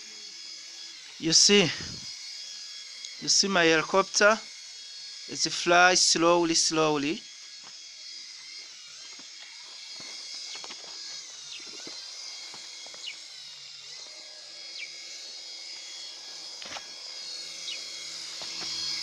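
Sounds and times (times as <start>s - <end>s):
toy helicopter motors whining: 0.0s - 19.0s.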